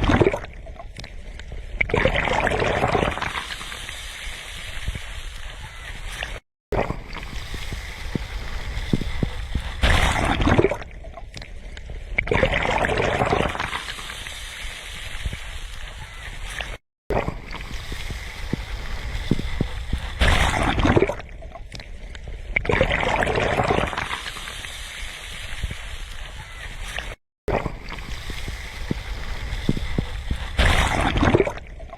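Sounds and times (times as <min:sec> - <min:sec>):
sea waves washing onto shore: 0:02.4 - 0:06.4, 0:07.0 - 0:10.9, 0:12.8 - 0:21.8, 0:23.0 - 0:31.9.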